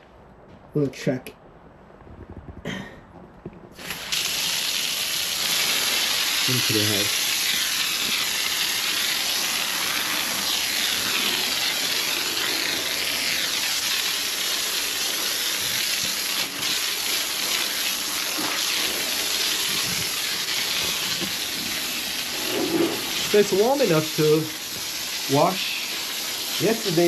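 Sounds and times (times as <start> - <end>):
hose spraying water on concrete: 3.8 - 27.0.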